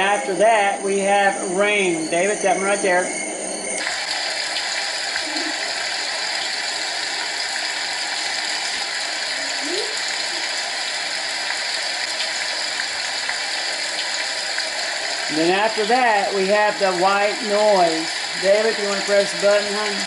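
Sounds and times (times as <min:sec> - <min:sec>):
recorded rain hiss from small speaker: 0:03.8 - 0:20.0.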